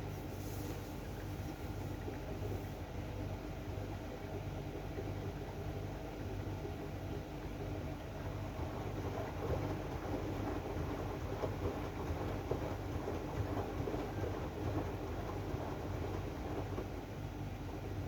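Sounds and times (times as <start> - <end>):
washing machine low hum: 0.0 - 18.0.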